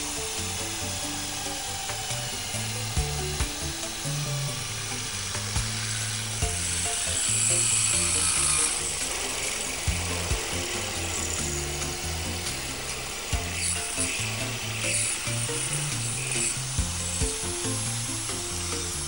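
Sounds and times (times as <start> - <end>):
background music with bass line: 0.0 - 19.0
drill boring through steel: 0.0 - 19.0.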